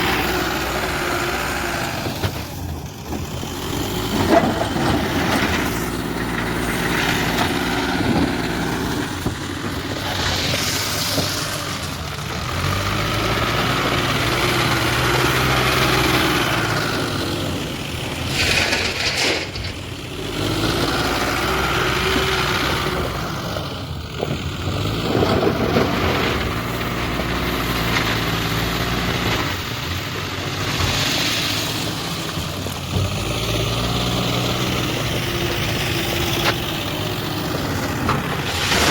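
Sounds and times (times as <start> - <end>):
diesel engine revving: 0.0 - 38.9.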